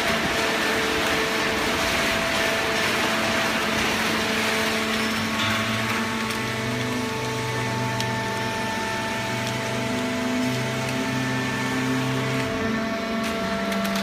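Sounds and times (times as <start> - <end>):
baling press machine hum: 0.0 - 14.0
deeper machine hum: 0.0 - 14.0.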